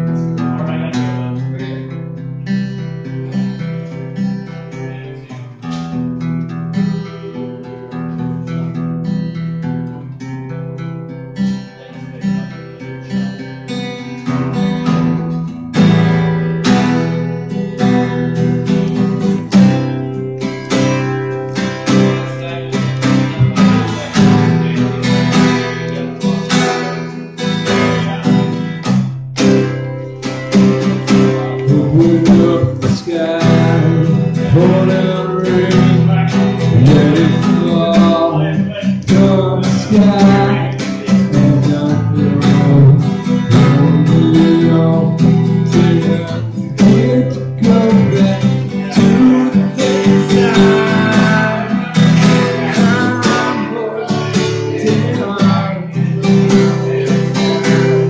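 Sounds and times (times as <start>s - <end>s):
acoustic guitar strumming: 0.0s - 58.0s
person singing: 6.8s - 8.4s, 11.4s - 58.0s.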